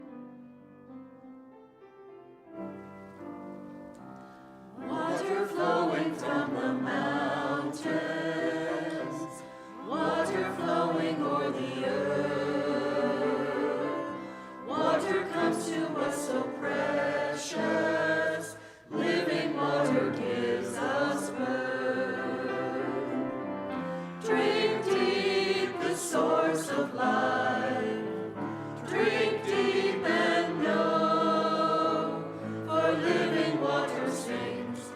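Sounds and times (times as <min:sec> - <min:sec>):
choir singing: 0:04.7 - 0:34.9.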